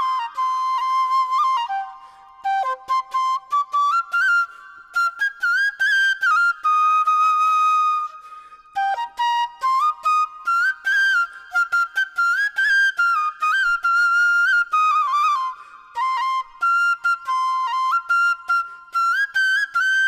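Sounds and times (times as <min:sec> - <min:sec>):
solo flute melody: 0:00.0 - 0:20.0.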